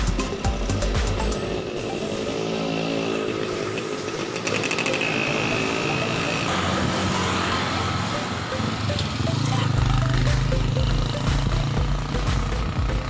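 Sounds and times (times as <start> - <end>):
small engine passing by: 1.4 - 13.0.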